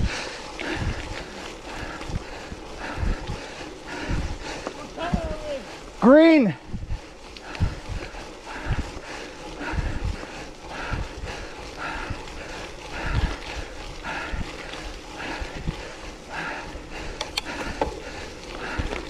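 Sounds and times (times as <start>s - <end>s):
bicycle rolling over rough trail: 0.0s - 19.0s
hard breathing: 0.0s - 19.0s
wind buffeting microphone: 0.0s - 19.0s.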